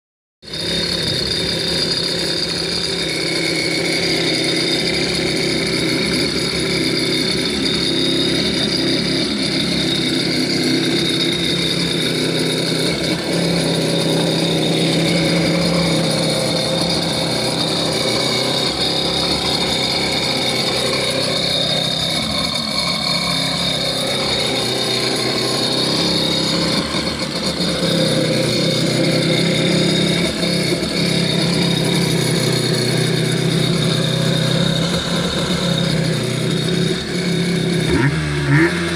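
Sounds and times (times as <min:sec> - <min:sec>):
jet ski engine running: 0:00.4 - 0:38.9.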